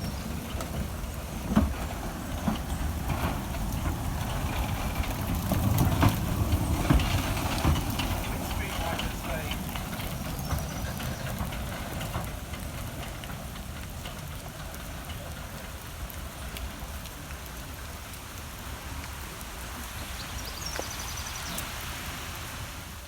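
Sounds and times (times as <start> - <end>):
wind rumble on microphone: 0.0 - 21.6
rain pattering: 0.0 - 23.0.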